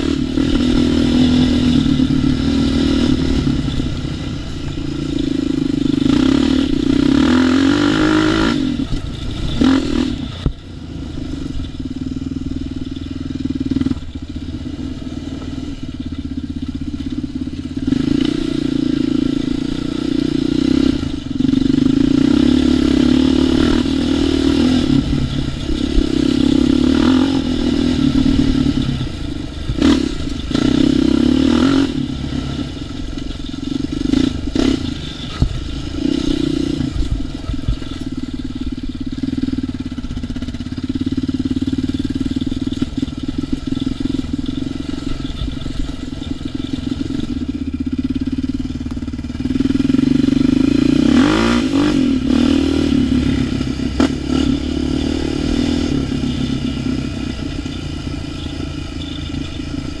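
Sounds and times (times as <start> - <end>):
atv engine revving: 0.0 - 60.0.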